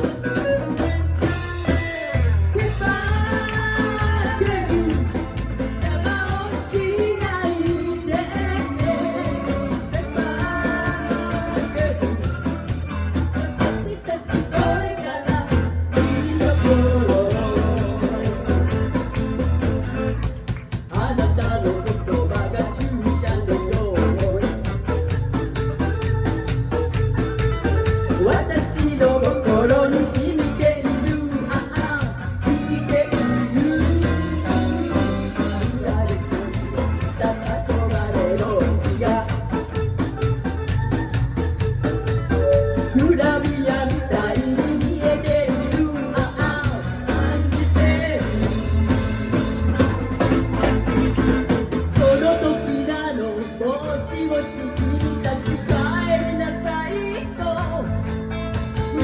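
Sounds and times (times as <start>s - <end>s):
person singing: 0.0s - 20.1s, 20.7s - 25.9s, 27.2s - 59.0s
live band playing: 0.0s - 59.0s.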